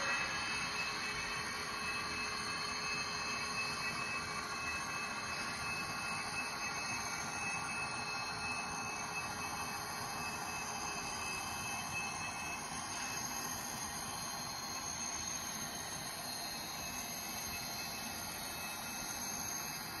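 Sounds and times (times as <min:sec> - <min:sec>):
faint high-pitched tones: 0:00.0 - 0:20.0.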